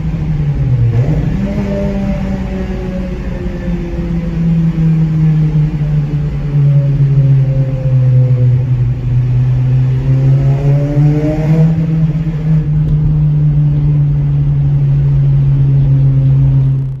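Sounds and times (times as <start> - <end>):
car engine idling drone: 0.0 - 17.0.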